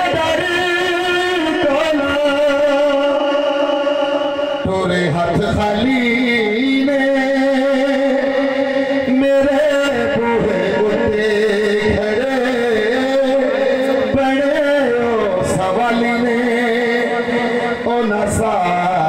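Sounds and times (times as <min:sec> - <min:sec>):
man singing through loudspeaker: 0:00.0 - 0:19.0.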